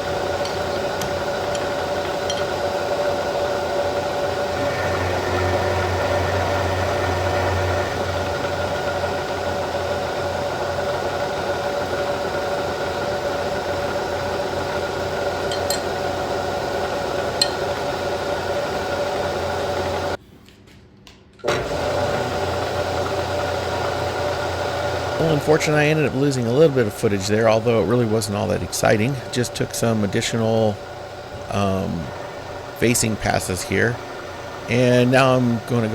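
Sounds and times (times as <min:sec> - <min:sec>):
milling machine humming and whining: 0:00.0 - 0:20.2, 0:21.5 - 0:35.9.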